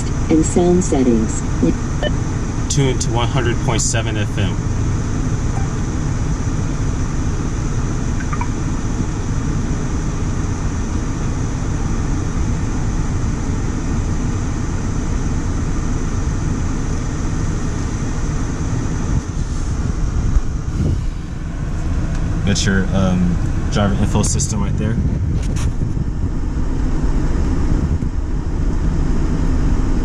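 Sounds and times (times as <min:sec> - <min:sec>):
car cabin rumble: 0:00.0 - 0:30.0
ventilation fan: 0:00.0 - 0:30.0.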